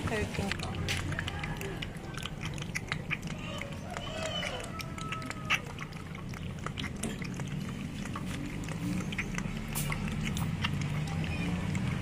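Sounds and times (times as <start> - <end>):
puppy lapping from metal bowl: 0.0 - 12.0.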